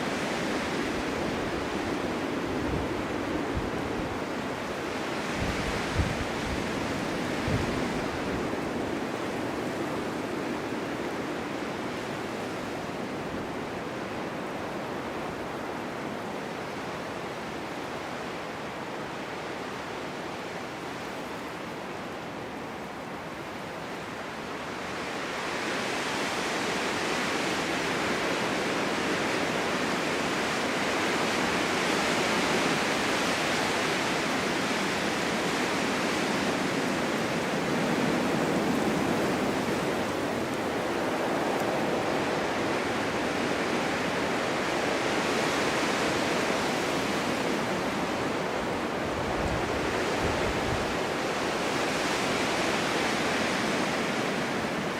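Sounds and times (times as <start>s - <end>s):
wind blowing: 0.0s - 15.9s, 22.9s - 54.9s.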